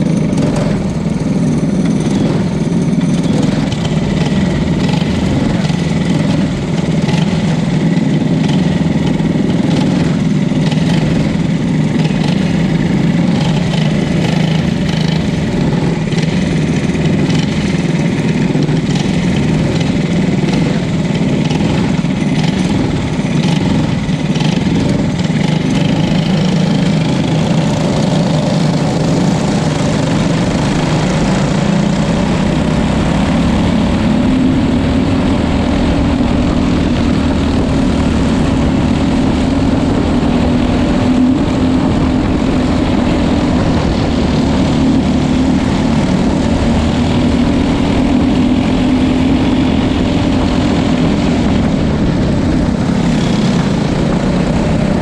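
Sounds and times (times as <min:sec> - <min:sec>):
go-kart engines running: 0:00.0 - 0:55.0.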